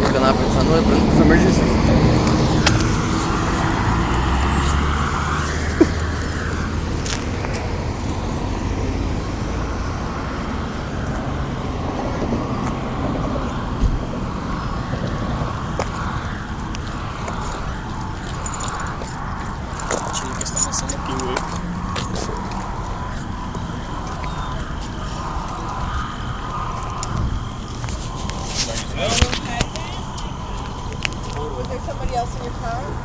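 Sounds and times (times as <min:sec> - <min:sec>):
low engine hum: 0:00.0 - 0:33.0
road traffic: 0:00.0 - 0:33.0.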